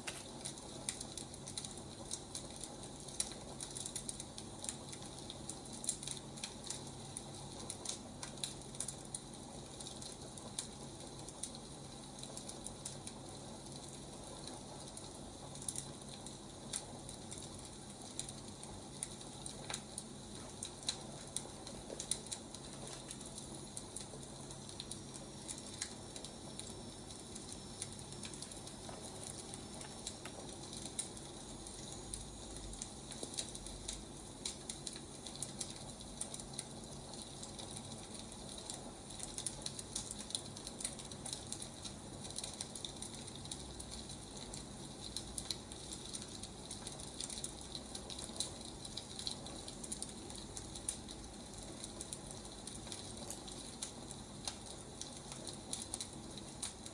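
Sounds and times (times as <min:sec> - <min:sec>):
firewood crackling and popping: 0:00.0 - 0:56.9.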